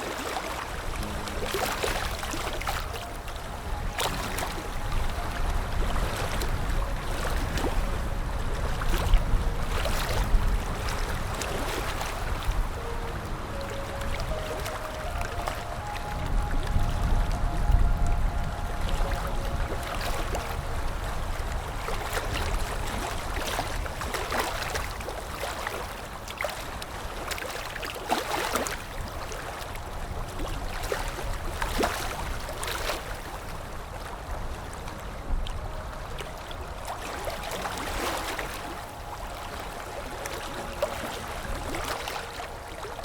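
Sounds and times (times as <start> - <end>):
sea waves washing onto shore: 0.0 - 43.0.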